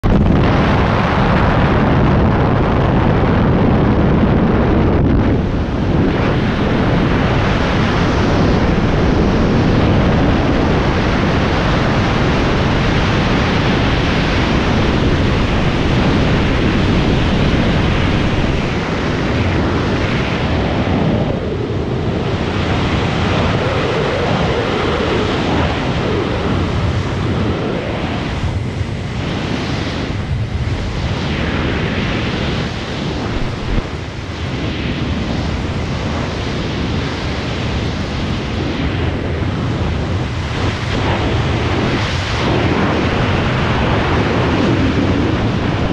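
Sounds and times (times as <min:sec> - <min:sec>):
wind roaring over microphone: 0:00.0 - 0:45.9.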